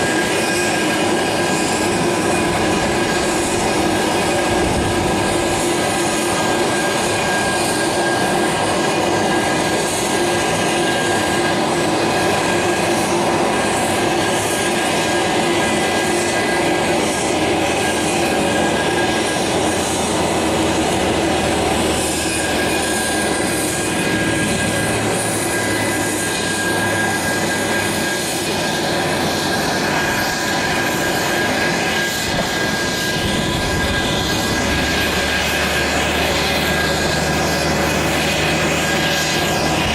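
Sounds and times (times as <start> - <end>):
aircraft turbine engines whining: 0.0 - 39.9.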